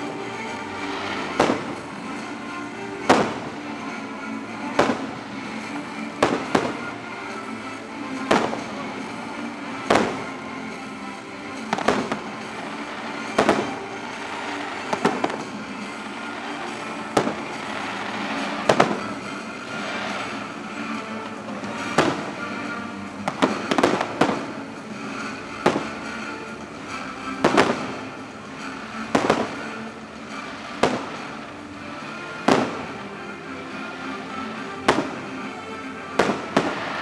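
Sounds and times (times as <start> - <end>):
fireworks bursting: 0.0 - 37.0
music soundtrack: 0.0 - 37.0.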